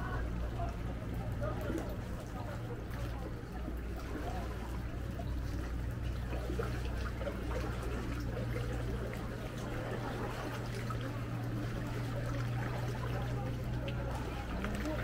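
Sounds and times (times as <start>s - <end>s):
motorboats humming: 0.0s - 15.0s
small waves lapping on rock: 0.0s - 15.0s.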